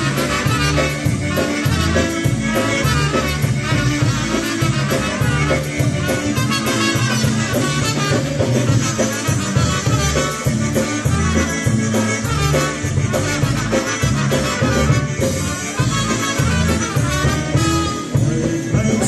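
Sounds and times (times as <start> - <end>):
polka band playing: 0.0 - 19.0.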